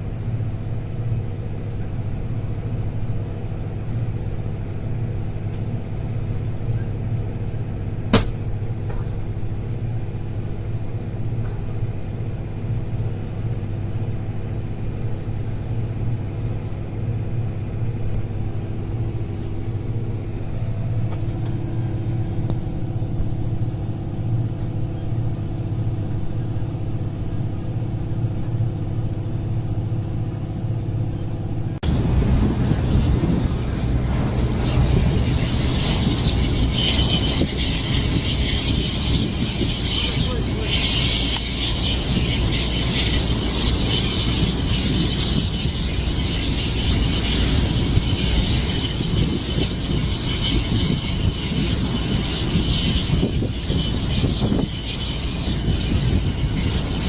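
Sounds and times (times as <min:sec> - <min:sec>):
large engine rumbling: 0:00.0 - 0:57.0
steady higher hum: 0:00.0 - 0:57.0.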